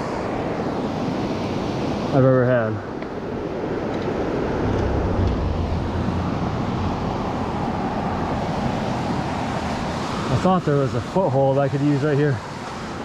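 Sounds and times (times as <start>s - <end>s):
wind rumble on microphone: 0.0s - 11.2s
river water rushing: 0.0s - 13.0s.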